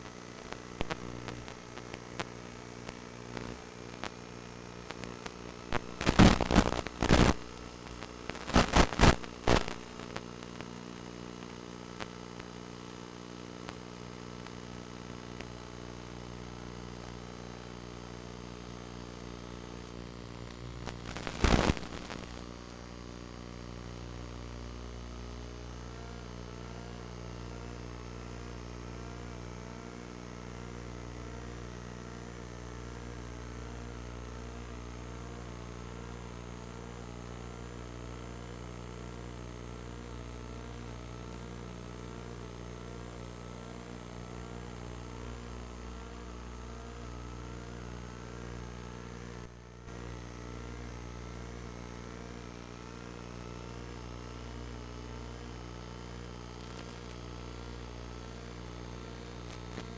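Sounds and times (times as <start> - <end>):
steady buzzing hum: 0.0 - 59.9.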